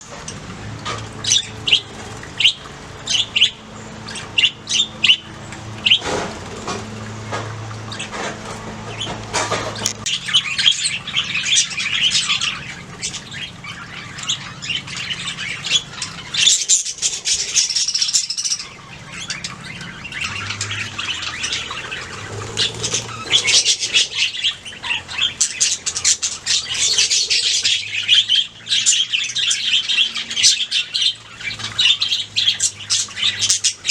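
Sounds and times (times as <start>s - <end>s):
budgies chirping and warbling: 0.0s - 33.9s.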